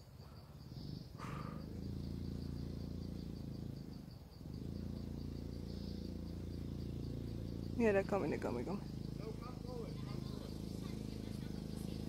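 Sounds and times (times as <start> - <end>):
crickets chirping: 0.0 - 12.0
low engine hum: 0.7 - 12.0.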